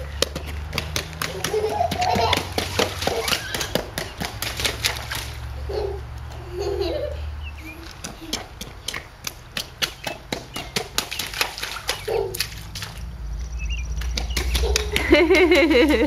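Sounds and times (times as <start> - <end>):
rain boots splashing in puddle: 0.0 - 5.6, 7.7 - 13.2, 13.9 - 16.0.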